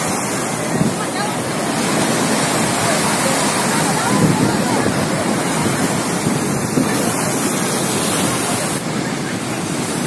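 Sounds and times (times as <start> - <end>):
surf breaking on sand: 0.0 - 10.0.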